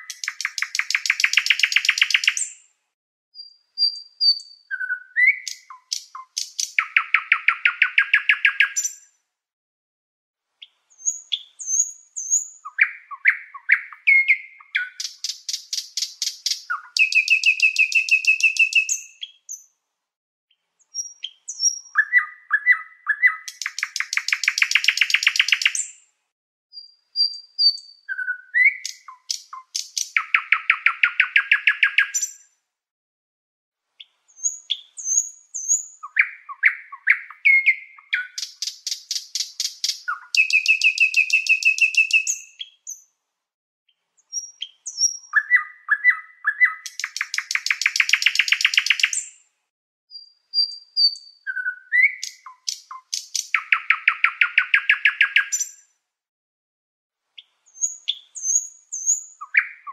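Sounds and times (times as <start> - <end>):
canary singing trills: 3.4 - 9.1, 10.6 - 19.7, 20.8 - 25.9, 26.8 - 32.4, 34.0 - 43.0, 44.2 - 49.4, 50.1 - 55.8, 57.4 - 59.9.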